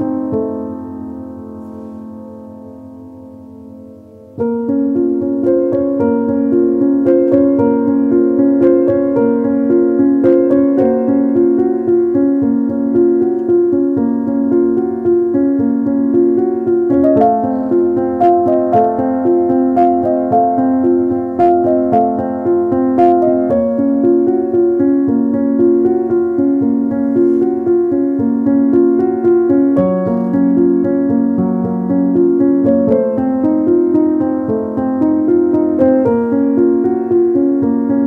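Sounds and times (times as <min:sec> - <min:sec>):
gentle piano piece: 0:00.0 - 0:38.0.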